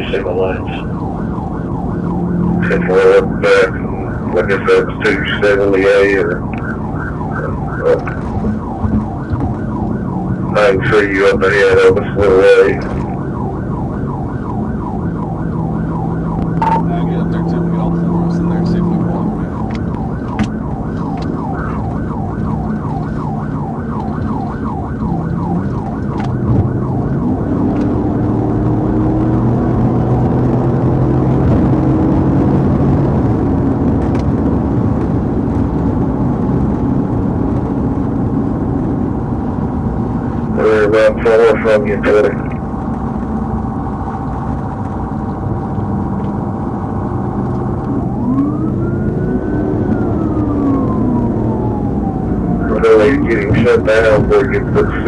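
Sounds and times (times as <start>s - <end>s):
car engine and tyres at speed: 0.0s - 55.0s
police siren yelping: 0.0s - 55.0s.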